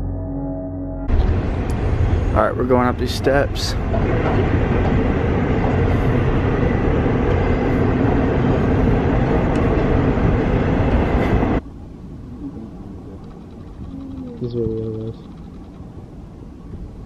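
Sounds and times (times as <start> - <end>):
passing train rumble: 1.1 - 17.0.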